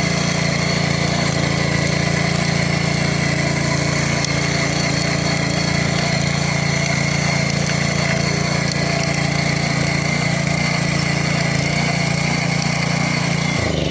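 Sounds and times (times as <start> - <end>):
petrol engine running steadily: 0.0 - 13.9.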